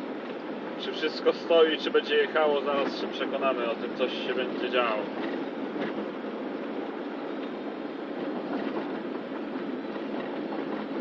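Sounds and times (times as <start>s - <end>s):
tyres on concrete road: 0.0s - 11.0s
van engine running: 0.0s - 11.0s.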